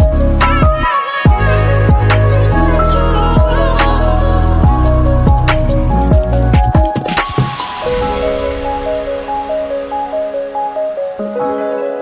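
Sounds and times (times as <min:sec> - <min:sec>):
electronic music with deep bass: 0:00.0 - 0:11.5.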